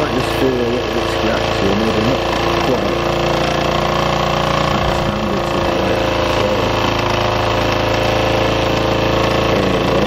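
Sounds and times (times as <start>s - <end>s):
toy steam engine running: 0.0s - 10.0s.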